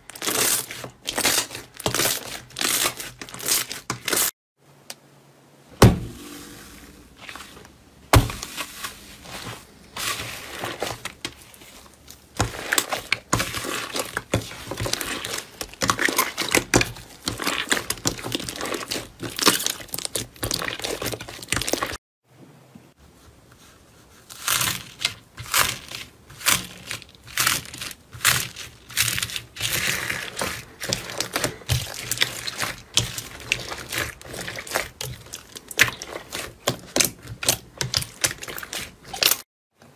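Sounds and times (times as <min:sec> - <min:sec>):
hands kneading sticky slime: 0:00.0 - 0:04.3, 0:08.1 - 0:22.0, 0:23.3 - 0:39.4.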